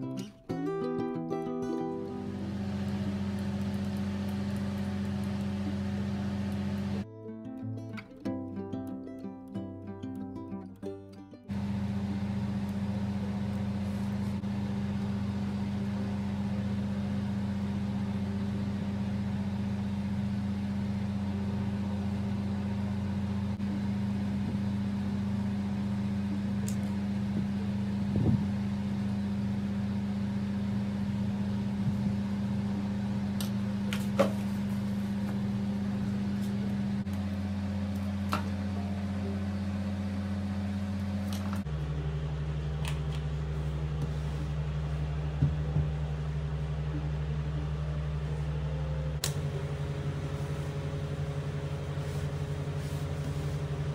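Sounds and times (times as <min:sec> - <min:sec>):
low machine hum: 0:00.0 - 0:07.1, 0:10.8 - 0:53.9.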